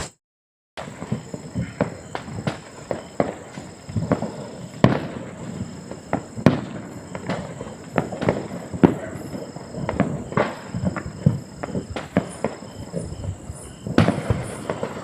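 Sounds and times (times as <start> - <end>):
distant firecrackers banging: 0.8 - 15.0.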